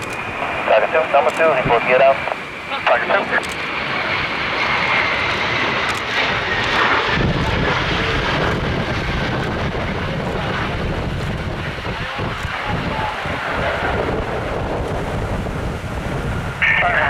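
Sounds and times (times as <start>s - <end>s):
jet fighter flying past: 0.0s - 17.0s.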